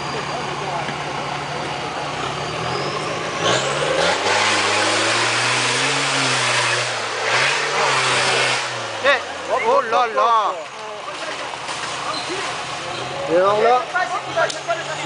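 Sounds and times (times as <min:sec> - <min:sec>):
off-road engine revving: 0:00.0 - 0:15.0.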